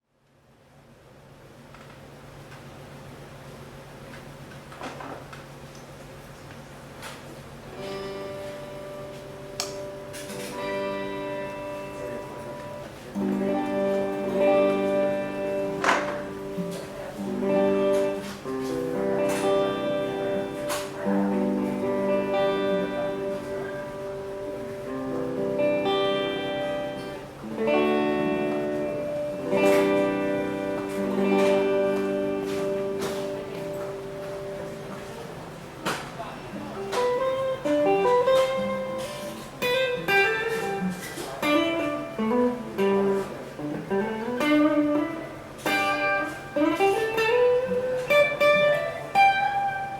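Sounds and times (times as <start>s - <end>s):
electric guitar chord and melody: 7.6s - 35.8s, 36.5s - 49.9s.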